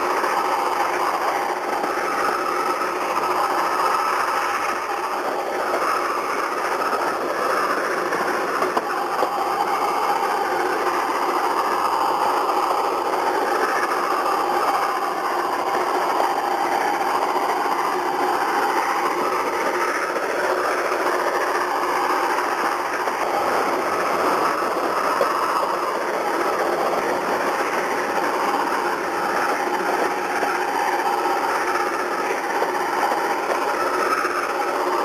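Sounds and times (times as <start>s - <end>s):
train carriages rumbling and rattling: 0.0s - 35.0s.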